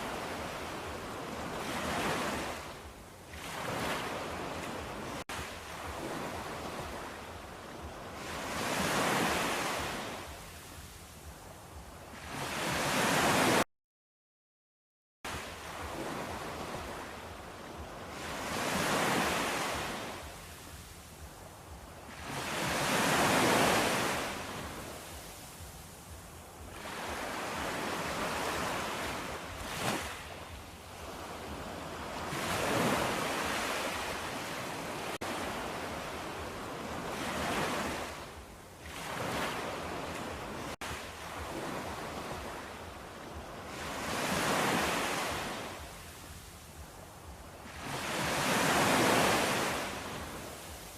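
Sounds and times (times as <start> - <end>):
waves breaking: 0.0 - 13.6, 15.3 - 50.9.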